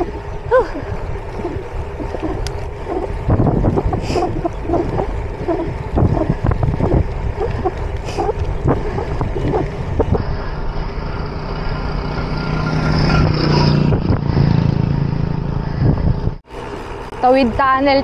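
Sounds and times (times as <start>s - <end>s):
wind rushing over microphone: 0.0s - 11.5s, 13.0s - 16.4s
motor vehicle hum: 0.0s - 18.0s.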